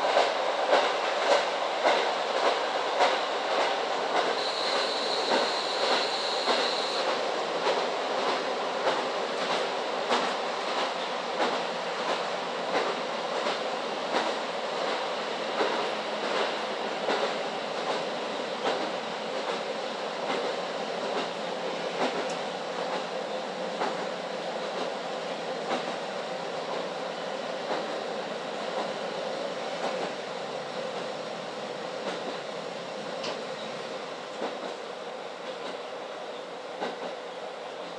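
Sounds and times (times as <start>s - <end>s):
train engine and wheels rumbling: 0.0s - 37.9s.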